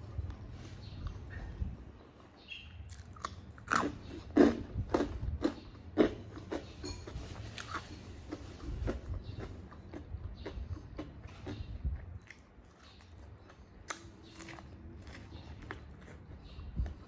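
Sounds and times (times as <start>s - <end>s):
person chewing food: 2.9s - 17.0s.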